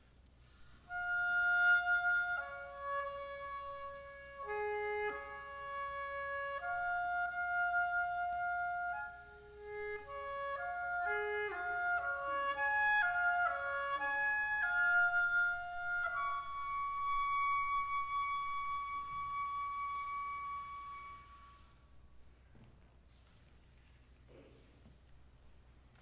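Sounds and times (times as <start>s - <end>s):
solo oboe playing: 0.4s - 22.3s.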